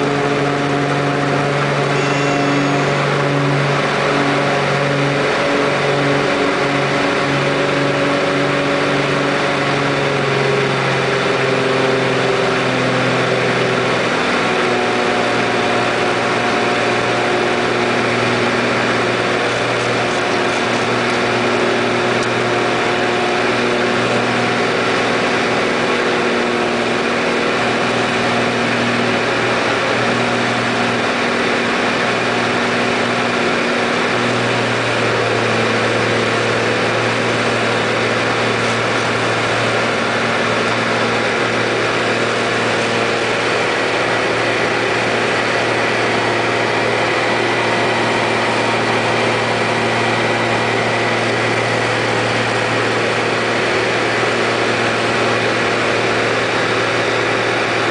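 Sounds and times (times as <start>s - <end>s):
plane engine and propeller droning: 0.0s - 57.9s.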